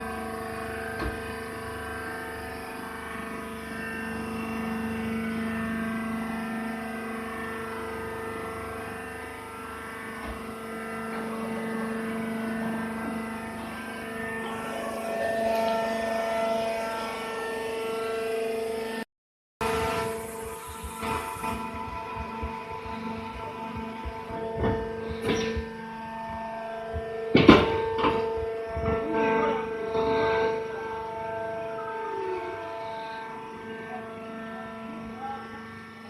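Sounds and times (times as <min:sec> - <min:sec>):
hydraulic press machine hum: 0:00.0 - 0:19.0, 0:19.6 - 0:36.0.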